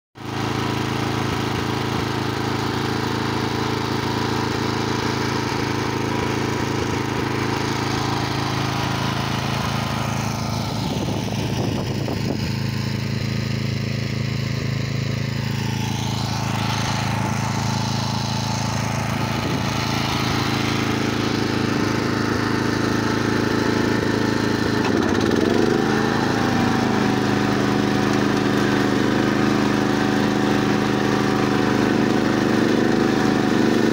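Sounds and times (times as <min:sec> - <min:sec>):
flail mower cutting dry grass: 0:00.2 - 0:33.9
tractor engine running: 0:00.2 - 0:33.9.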